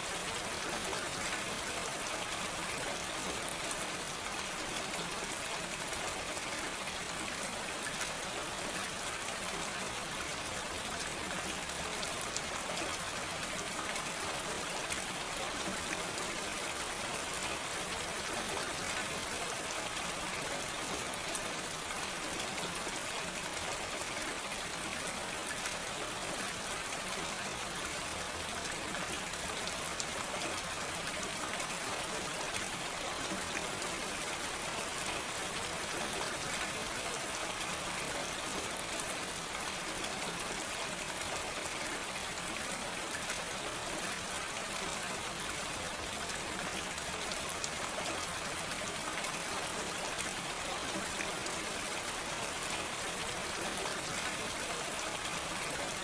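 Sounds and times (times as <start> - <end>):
gentle rain: 0.0 - 56.0.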